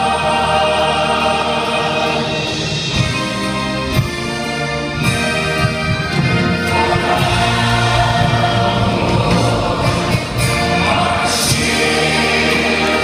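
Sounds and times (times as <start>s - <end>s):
gospel choir and band: 0.0s - 13.0s.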